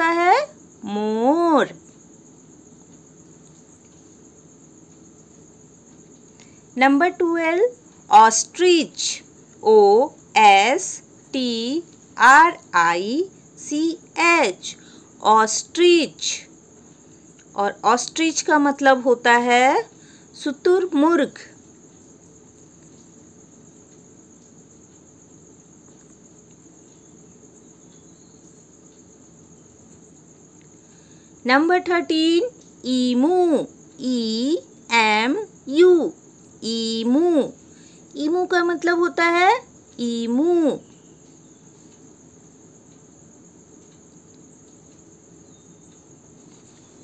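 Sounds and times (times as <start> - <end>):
faint steady hiss: 0.0 - 47.0.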